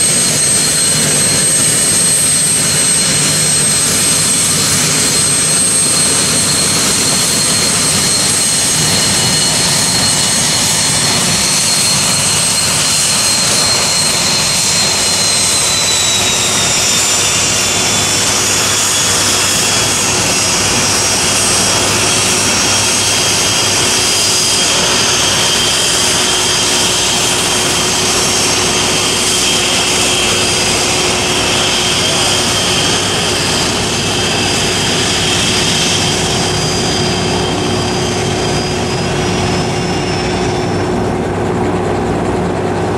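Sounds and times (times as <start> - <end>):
jet engine whine: 0.0 - 42.9
rushing jet exhaust: 0.0 - 42.9.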